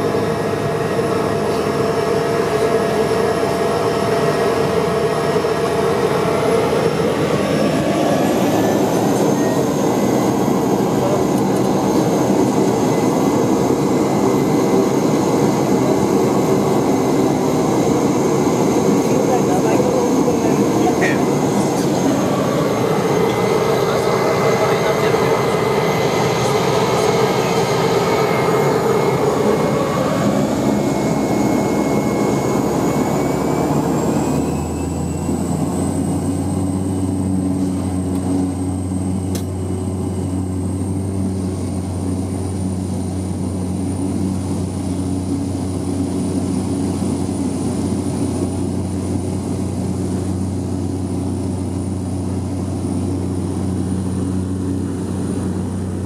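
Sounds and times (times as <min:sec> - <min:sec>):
high turbine whine: 0:00.0 - 0:56.0
turboprop engine drone: 0:00.0 - 0:56.0.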